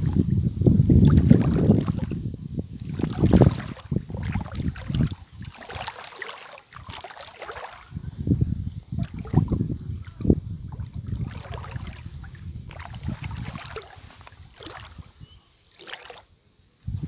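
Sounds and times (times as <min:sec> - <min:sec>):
feet splashing through water: 0:00.0 - 0:00.3, 0:00.9 - 0:02.2, 0:02.8 - 0:08.2, 0:08.9 - 0:16.4
wind on microphone: 0:00.0 - 0:17.0.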